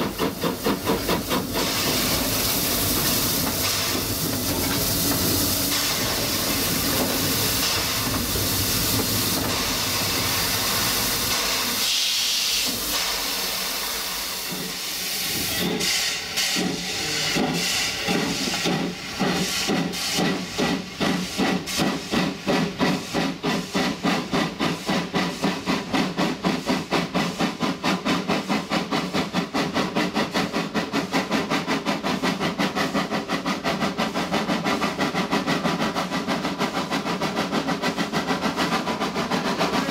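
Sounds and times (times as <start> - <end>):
steam hiss: 0.0 - 39.9
steam locomotive chuffing: 0.0 - 39.9.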